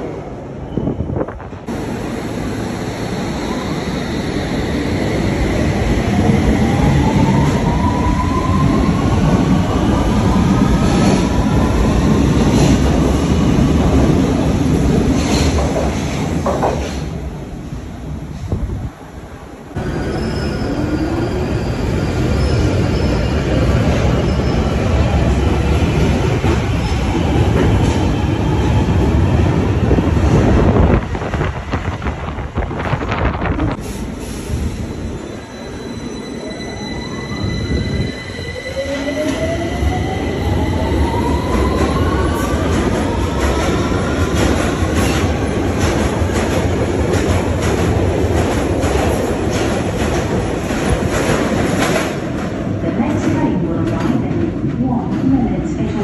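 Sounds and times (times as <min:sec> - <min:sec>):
train wheels rumbling on rail: 0:00.0 - 0:36.3, 0:37.4 - 0:56.0
distant train rattling in tunnel: 0:00.0 - 0:56.0.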